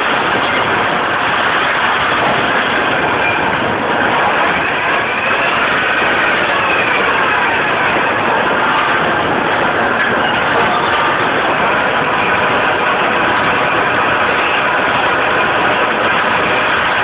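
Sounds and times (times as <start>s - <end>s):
faint machine whine: 0.0s - 17.0s.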